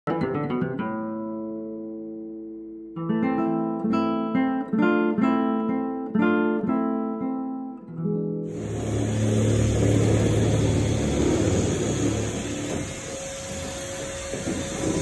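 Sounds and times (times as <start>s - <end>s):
acoustic guitar strumming: 0.1s - 15.0s.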